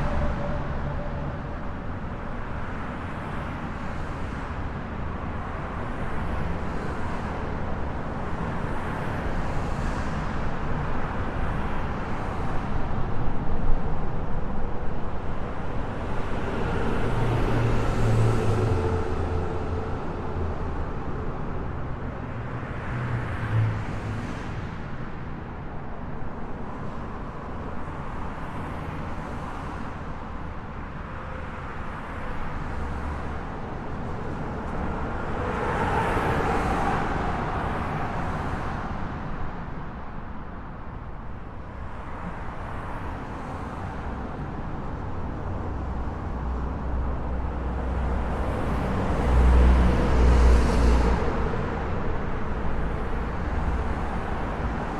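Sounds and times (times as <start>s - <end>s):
highway traffic: 0.0s - 54.9s
vehicles passing: 0.0s - 54.9s.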